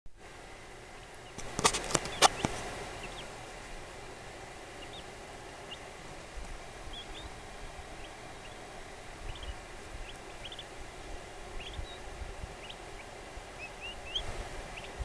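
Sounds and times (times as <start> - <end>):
turkey poults peeping: 0.9 - 3.9, 4.5 - 15.0.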